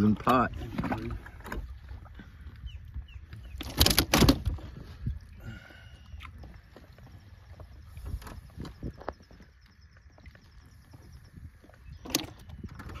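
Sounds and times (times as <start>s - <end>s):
faint wind: 0.0s - 13.0s
water noise: 0.0s - 13.0s.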